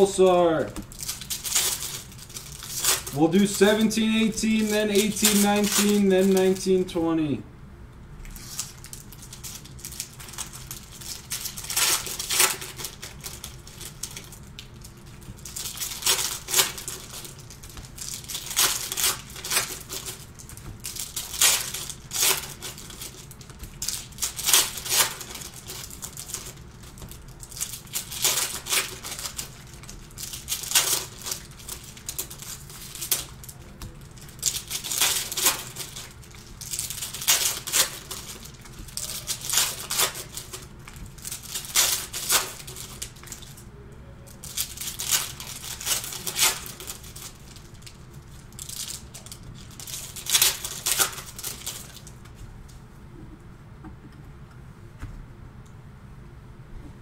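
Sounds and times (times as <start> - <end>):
foil wrappers tearing and crinkling: 0.8 - 6.8, 8.2 - 43.6, 44.3 - 52.3.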